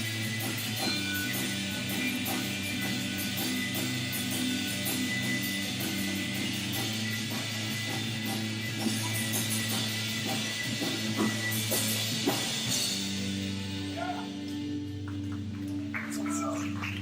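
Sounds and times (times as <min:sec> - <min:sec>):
bass guitar: 0:00.0 - 0:17.0
drum kit beat: 0:00.0 - 0:17.0
electric guitar: 0:00.0 - 0:17.0.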